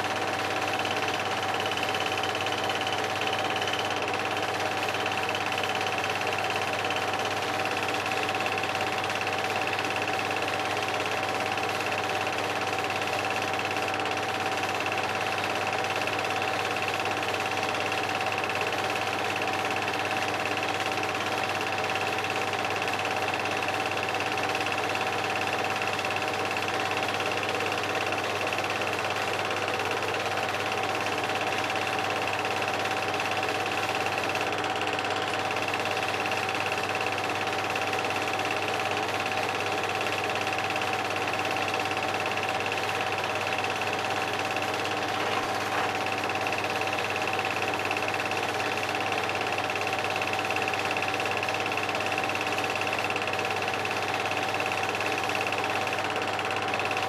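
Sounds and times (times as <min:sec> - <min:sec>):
movie projector whirring: 0:00.0 - 0:57.0.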